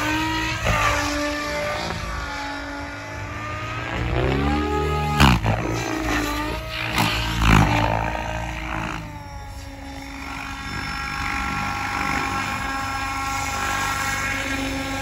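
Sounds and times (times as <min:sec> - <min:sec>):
model helicopter rotors whining: 0:00.0 - 0:15.0.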